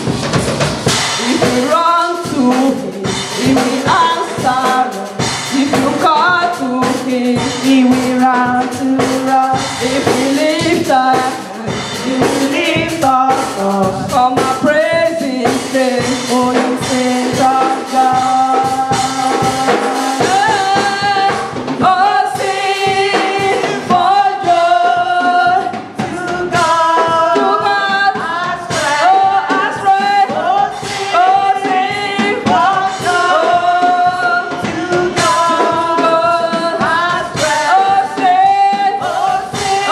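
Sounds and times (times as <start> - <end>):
live band with drums: 0.0 - 39.9
choir singing: 0.8 - 8.0, 8.6 - 13.9, 15.4 - 39.9.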